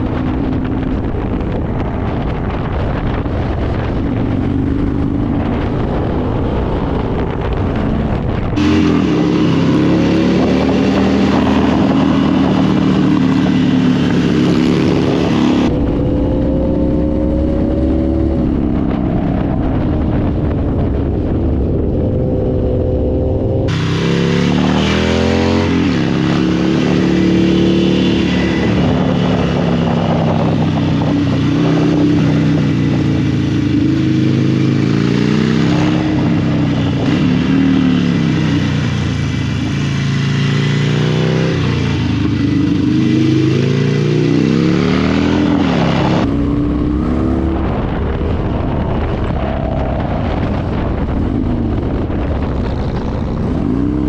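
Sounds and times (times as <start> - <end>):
motorcycle engine shifting gears: 0.0 - 54.0
wind buffeting on microphone: 0.0 - 54.0.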